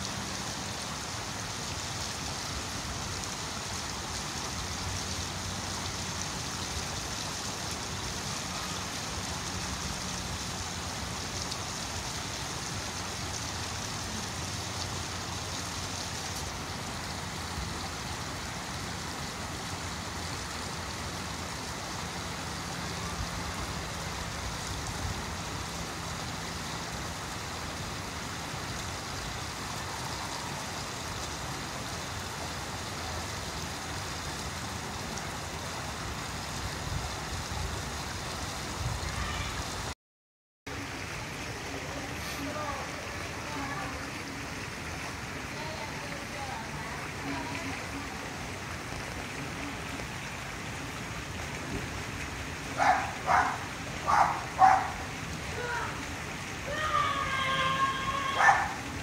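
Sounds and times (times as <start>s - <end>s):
running water rushing: 0.0s - 40.0s, 40.7s - 59.0s.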